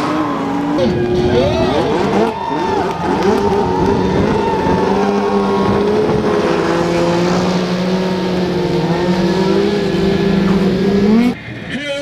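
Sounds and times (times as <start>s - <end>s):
snowmobile engines running hard: 0.0s - 12.0s.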